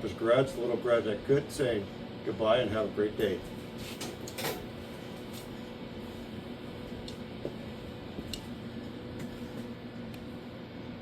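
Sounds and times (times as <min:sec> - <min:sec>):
background hum with held tones: 0:00.0 - 0:11.0.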